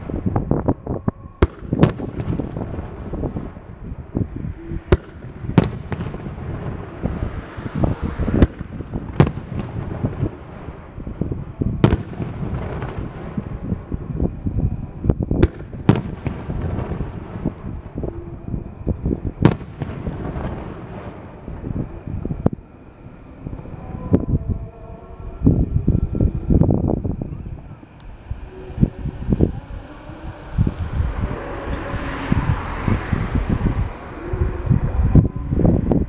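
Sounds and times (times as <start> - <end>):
low rumble: 0.0 - 36.0.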